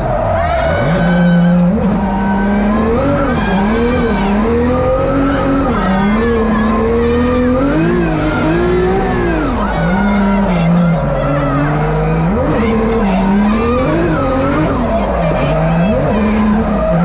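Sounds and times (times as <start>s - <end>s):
car engine revving: 0.0s - 17.0s
tyres squealing: 0.0s - 17.0s.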